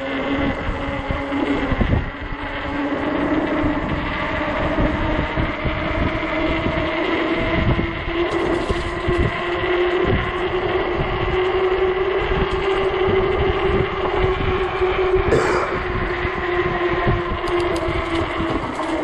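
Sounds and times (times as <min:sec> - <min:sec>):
electric bike motor whine: 0:00.0 - 0:19.0
wind buffeting microphone: 0:00.0 - 0:19.0.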